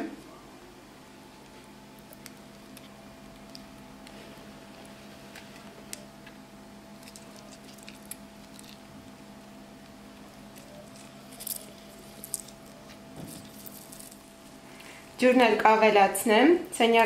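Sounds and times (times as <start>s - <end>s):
faint steady hum: 0.0s - 17.0s
juice dripping: 1.3s - 15.0s.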